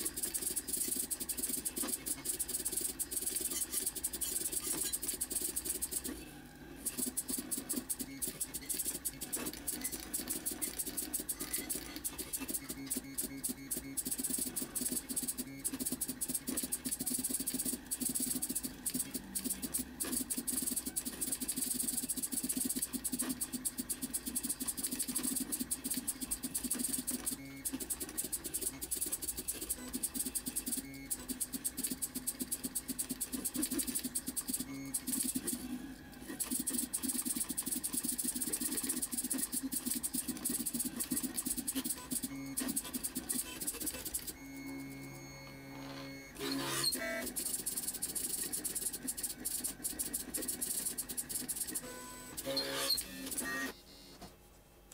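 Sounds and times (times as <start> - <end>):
stepper motors buzzing and clicking: 0.0 - 6.2, 6.8 - 53.8.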